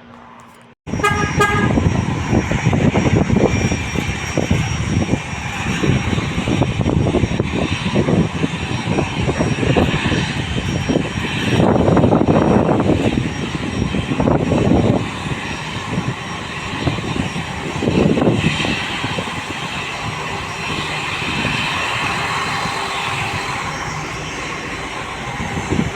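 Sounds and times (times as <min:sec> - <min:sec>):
aircraft engine rumble: 0:00.0 - 0:25.9.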